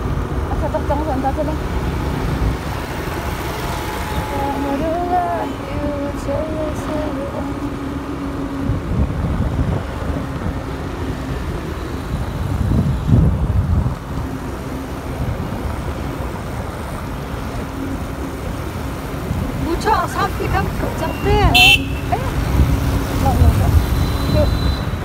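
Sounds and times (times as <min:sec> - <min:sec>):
road and wind rumble: 0:00.0 - 0:25.0.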